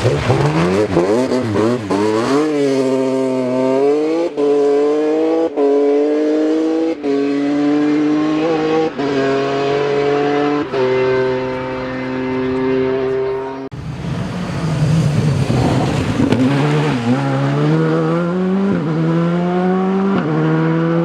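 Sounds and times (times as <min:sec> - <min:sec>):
rally car engine accelerating: 0:00.0 - 0:21.0.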